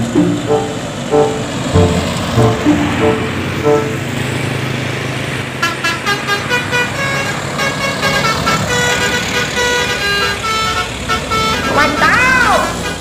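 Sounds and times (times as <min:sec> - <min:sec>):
bus engine running: 0:00.0 - 0:13.0
multi-tone bus horn tune: 0:00.0 - 0:13.0.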